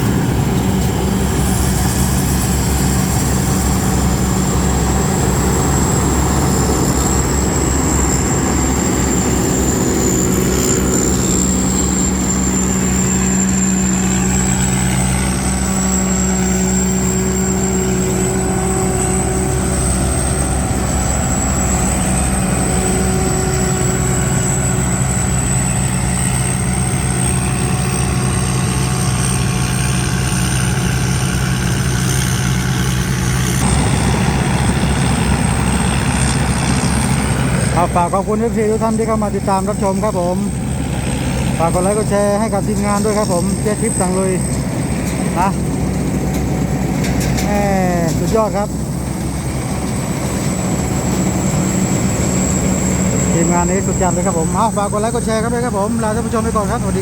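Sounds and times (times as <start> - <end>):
combine harvester engine running: 0.0 - 57.0
high-pitched whine: 0.0 - 57.0.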